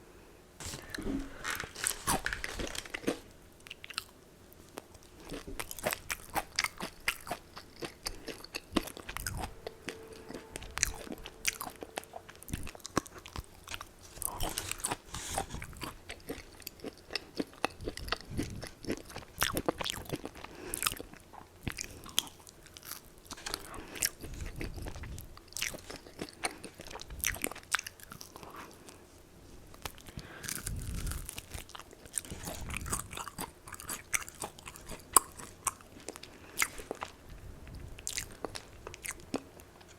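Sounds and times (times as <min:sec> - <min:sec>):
crunching fried chicken: 0:00.6 - 0:29.0, 0:29.7 - 0:39.9.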